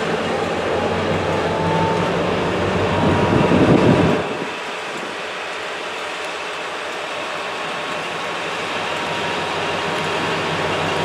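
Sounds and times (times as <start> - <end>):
diesel locomotive engine throbbing: 0.0 - 11.0.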